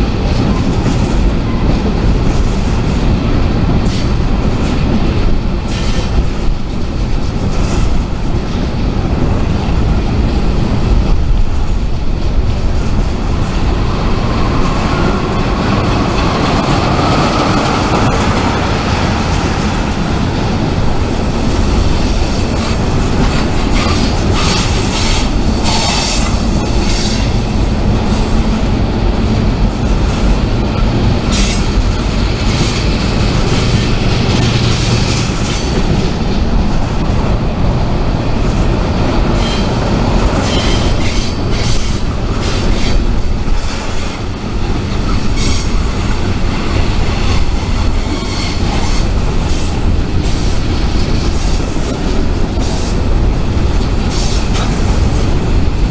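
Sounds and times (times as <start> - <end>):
freight train rumbling: 0.0 - 55.9
train wheel squeal: 5.6 - 8.3, 12.4 - 28.8, 29.4 - 37.4, 38.2 - 55.9.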